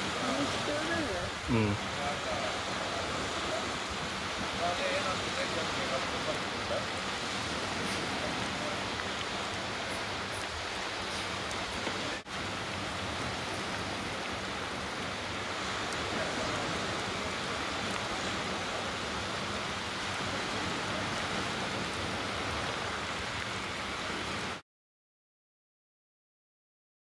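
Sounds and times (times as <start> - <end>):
steady rushing hiss: 0.0 - 24.6.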